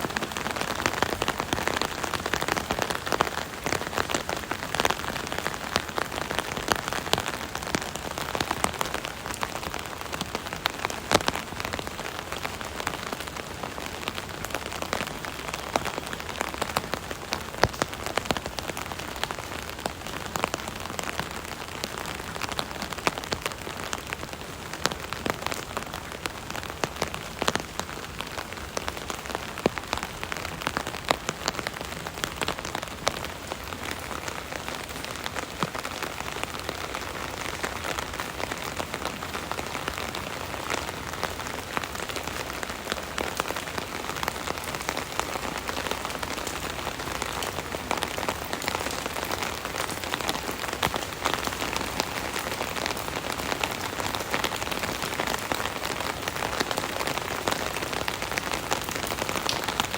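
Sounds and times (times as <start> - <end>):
rain pattering on umbrella: 0.0 - 59.9.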